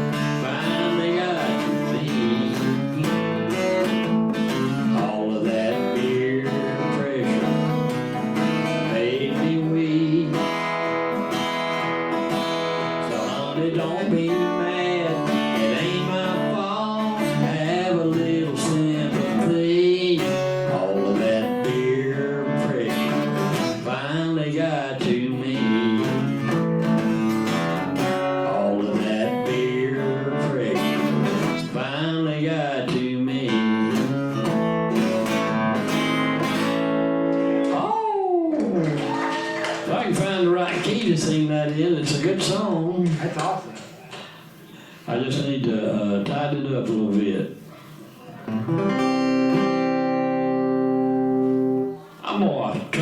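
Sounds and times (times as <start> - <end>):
acoustic guitar chords: 0.0 - 53.0.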